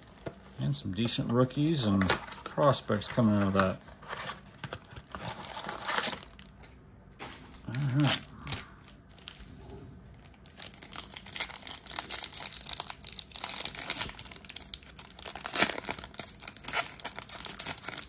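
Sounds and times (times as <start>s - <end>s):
plastic wrapping crinkling and tearing: 0.0s - 6.7s, 10.2s - 18.0s.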